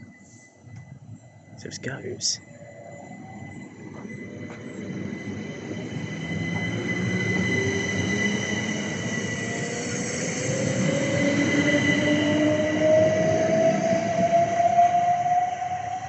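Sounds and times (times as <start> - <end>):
electric train accelerating: 0.0 - 16.0
steady high-pitched tone: 0.0 - 16.0.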